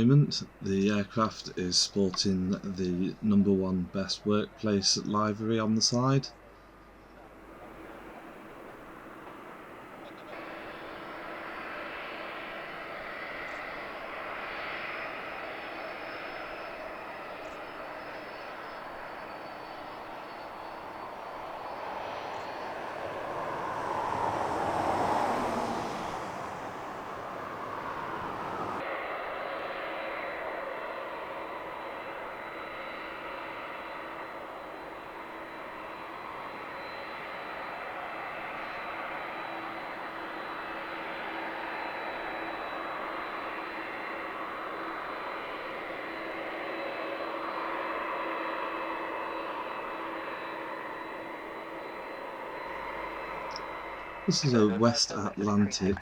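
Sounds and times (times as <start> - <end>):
jet engines whining: 7.6 - 55.9.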